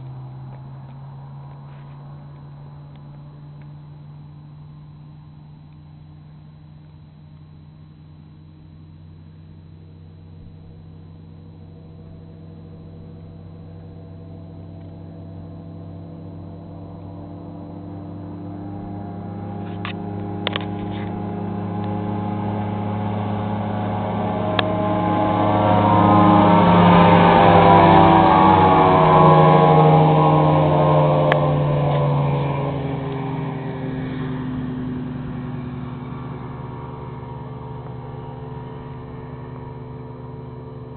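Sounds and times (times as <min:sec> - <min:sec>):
outboard boat engine passing by: 0:00.0 - 0:40.9.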